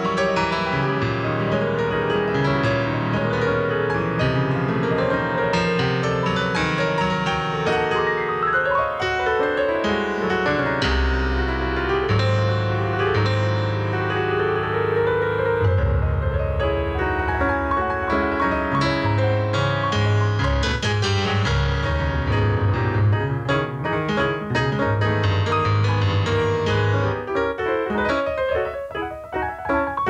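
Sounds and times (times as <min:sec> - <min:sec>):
solo piano piece: 0:00.0 - 0:30.0.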